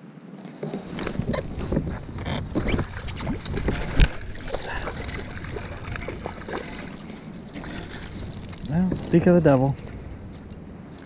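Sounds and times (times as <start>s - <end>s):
gear knocking in a boat: 0.6s - 11.0s
low rumble: 1.1s - 11.0s.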